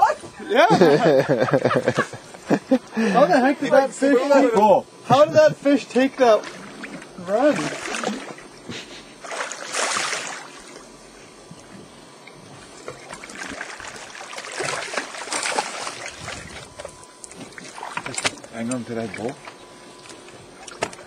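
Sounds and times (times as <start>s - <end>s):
water sloshing against boat: 0.0s - 21.0s.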